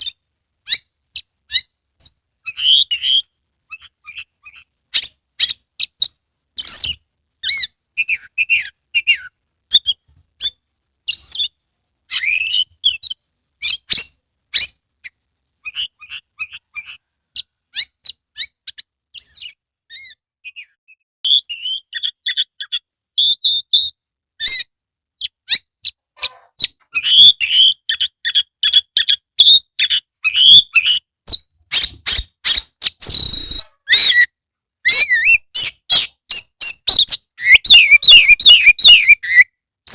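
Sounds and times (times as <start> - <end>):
bird singing whistles and trills: 0.0 - 14.8, 15.6 - 26.0, 26.6 - 39.9.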